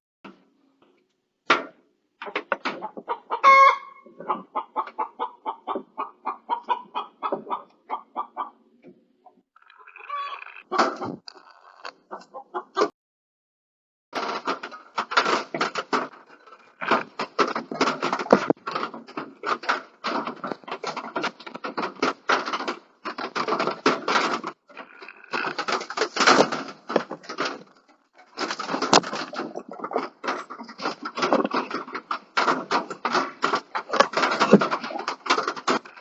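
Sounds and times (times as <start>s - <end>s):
rustling and scratching in coop: 2.2s - 12.9s, 14.2s - 36.0s.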